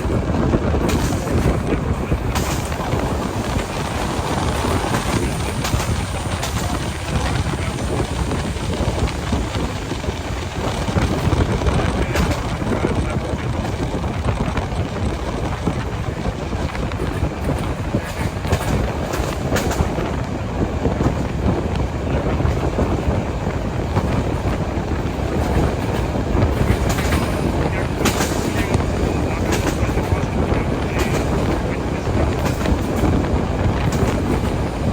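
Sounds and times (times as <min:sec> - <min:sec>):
sharp track clicks: 0:00.0 - 0:34.9
train rumbling on track: 0:00.0 - 0:34.9
wind on microphone: 0:00.0 - 0:34.9.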